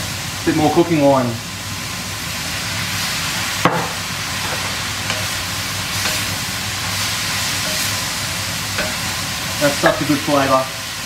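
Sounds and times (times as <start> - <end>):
cooking wine hissing off as steam: 0.0 - 11.0
stir-fry sizzling in a wok: 0.0 - 11.0.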